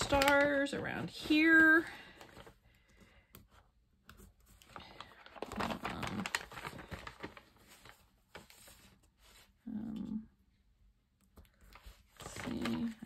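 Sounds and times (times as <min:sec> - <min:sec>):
paper rustling and crinkling: 0:00.0 - 0:09.6, 0:11.4 - 0:13.0.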